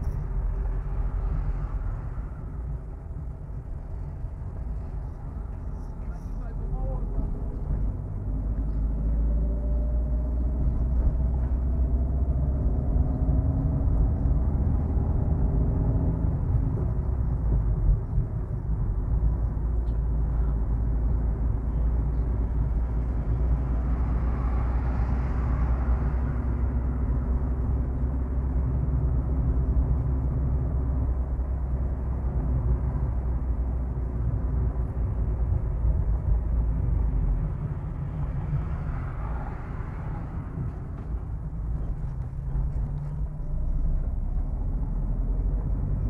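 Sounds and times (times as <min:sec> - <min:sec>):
car road and engine rumble: 0:00.0 - 0:46.0
passing traffic: 0:00.0 - 0:46.0.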